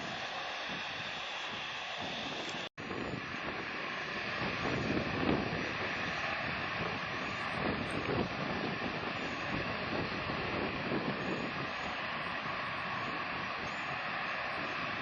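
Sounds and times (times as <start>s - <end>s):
jet engine rushing: 0.0s - 15.0s
wind buffeting microphone: 0.0s - 15.0s.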